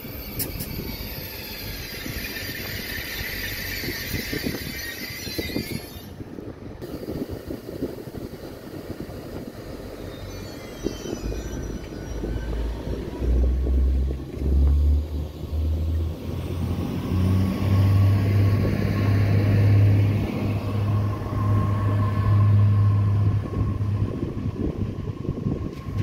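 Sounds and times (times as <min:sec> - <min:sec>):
train engine drone: 0:00.0 - 0:26.0
wheels rumbling on rail: 0:00.0 - 0:26.0.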